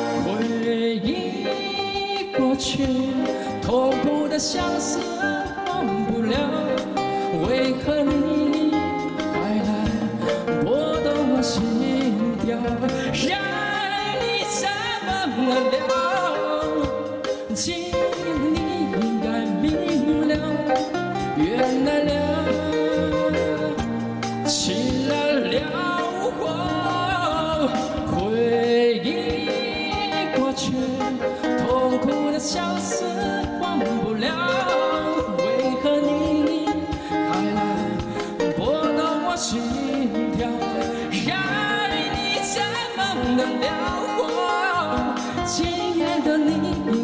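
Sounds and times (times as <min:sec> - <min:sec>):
band with guitars: 0:00.0 - 0:47.0
man singing pop ballad: 0:00.0 - 0:47.0.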